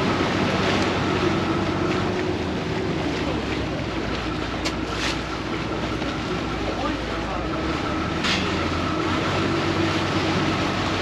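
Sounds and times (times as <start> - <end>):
boat engine humming: 0.0 - 11.0
water wash: 0.0 - 11.0.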